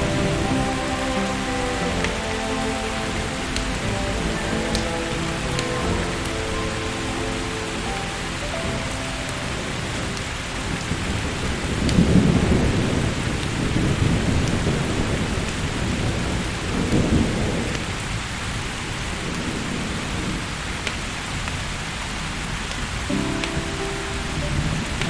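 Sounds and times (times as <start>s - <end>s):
rolling thunder: 0.0s - 20.7s
steady rain falling: 0.0s - 25.0s.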